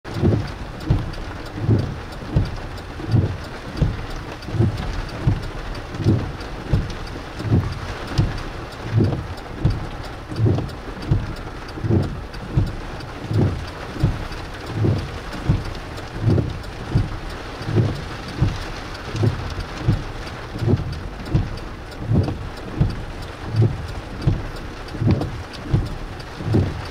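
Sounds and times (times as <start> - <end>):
heavy rain on a car: 0.0 - 26.9
windshield wiper thumps: 0.1 - 26.9.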